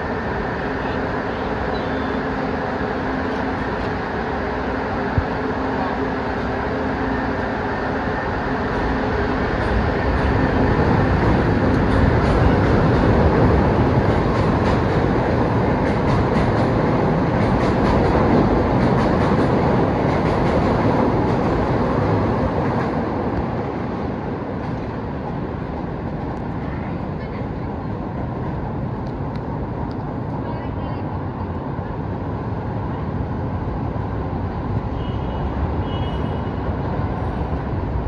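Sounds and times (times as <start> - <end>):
train passing on rails: 0.0 - 38.0.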